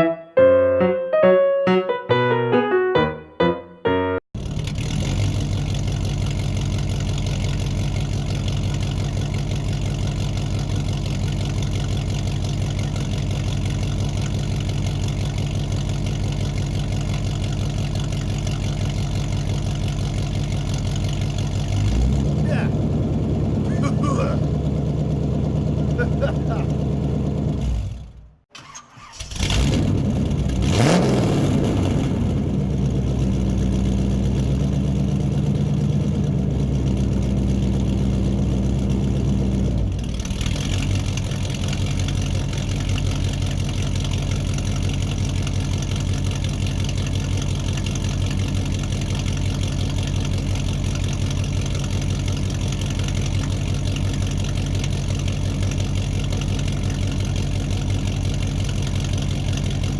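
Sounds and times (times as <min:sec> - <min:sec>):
engine starting and running: 0:04.4 - 0:59.9.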